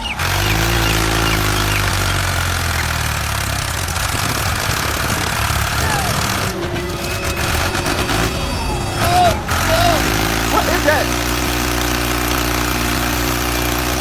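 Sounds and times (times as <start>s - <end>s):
birds chirping: 0.0s - 14.0s
small engine running: 0.0s - 14.0s.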